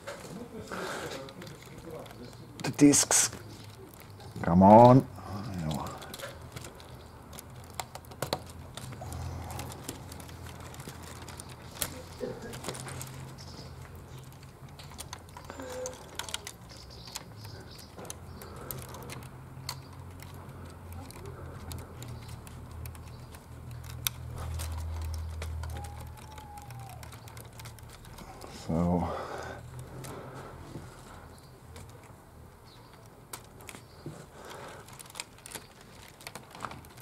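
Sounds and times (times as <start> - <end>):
plastic parts clicking and rattling: 0.0 - 37.0.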